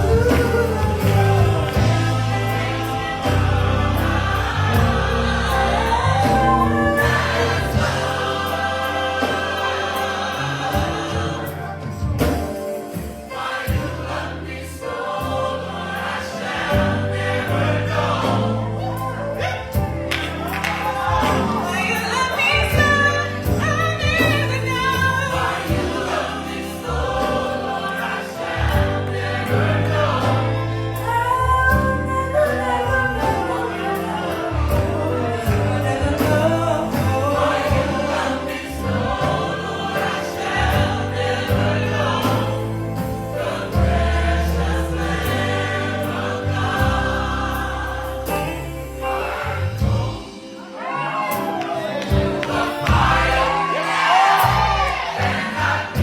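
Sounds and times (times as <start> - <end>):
sustained low bass notes: 0.0 - 12.6, 15.3 - 50.4
gospel choir singing: 0.0 - 56.0.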